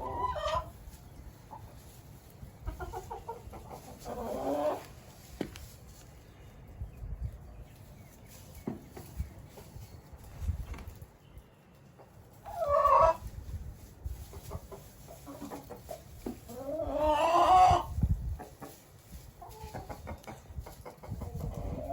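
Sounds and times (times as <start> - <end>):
chickens calling: 0.0 - 21.9.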